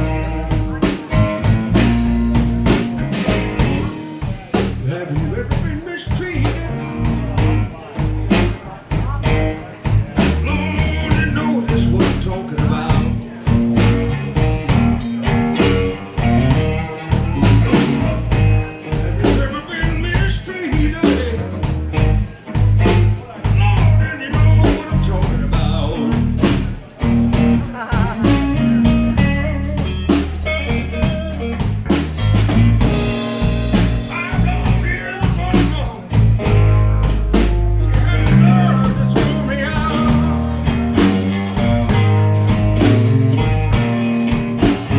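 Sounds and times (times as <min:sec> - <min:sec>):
bass and drum beat: 0:00.0 - 0:44.9
blues-rock music: 0:00.0 - 0:44.9
guitar: 0:00.0 - 0:44.9.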